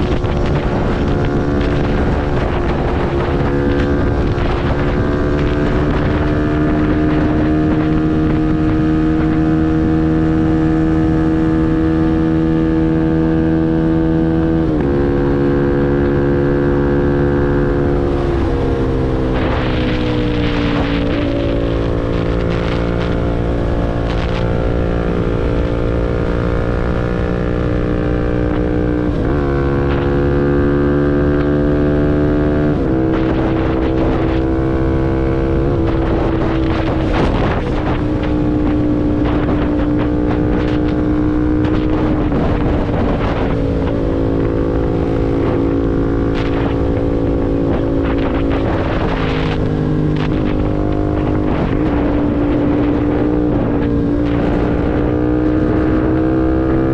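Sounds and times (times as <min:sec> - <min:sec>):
motorcycle engine running: 0:00.0 - 0:56.9
wind noise on microphone: 0:00.0 - 0:56.9.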